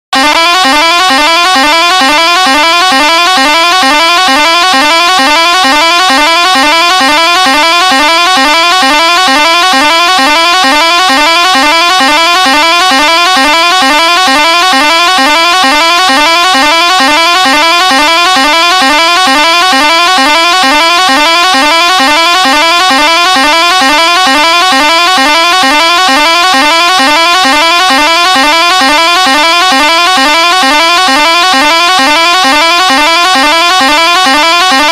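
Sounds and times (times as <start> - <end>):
musical pressure horn: 0.1 - 34.9.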